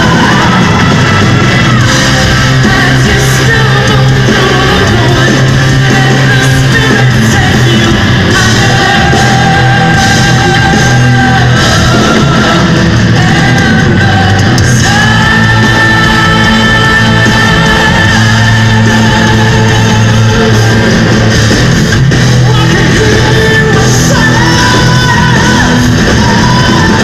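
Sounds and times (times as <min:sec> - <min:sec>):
metal band playing live: 0:00.0 - 0:27.0
sung lead vocals: 0:00.0 - 0:27.0.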